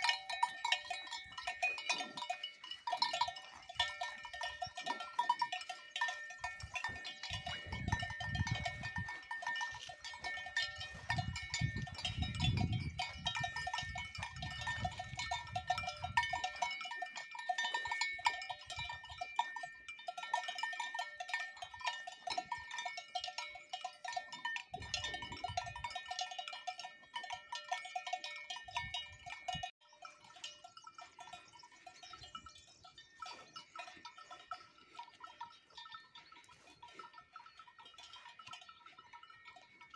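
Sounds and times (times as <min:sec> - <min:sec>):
cowbells clanking: 0:00.0 - 0:39.9.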